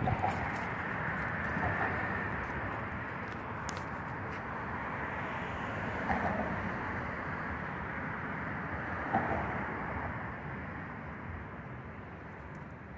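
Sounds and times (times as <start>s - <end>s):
city background rumble and hiss: 0.0s - 12.9s.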